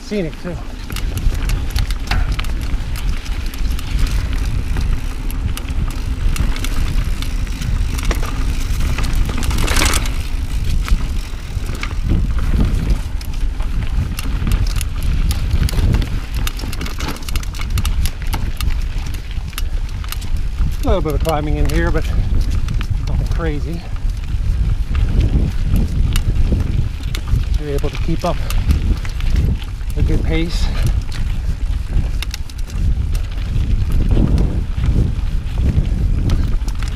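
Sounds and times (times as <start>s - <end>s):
bike clicking and rattling: 0.0s - 36.9s
bike tyres rumbling on dirt trail: 0.0s - 36.9s.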